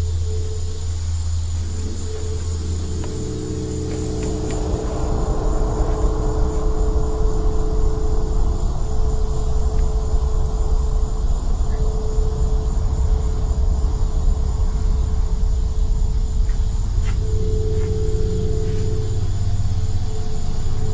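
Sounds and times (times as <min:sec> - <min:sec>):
low rumble with humming tone: 0:00.0 - 0:20.9.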